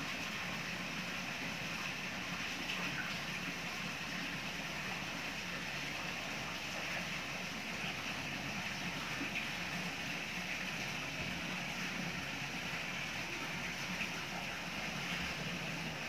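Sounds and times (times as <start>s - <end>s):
waterfall splashing into pond: 0.0s - 16.0s.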